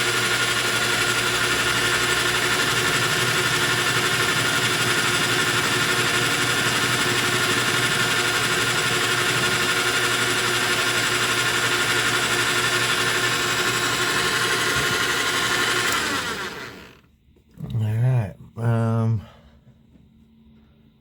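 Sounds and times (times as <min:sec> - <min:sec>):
metal lathe humming and whining: 0:00.0 - 0:17.0.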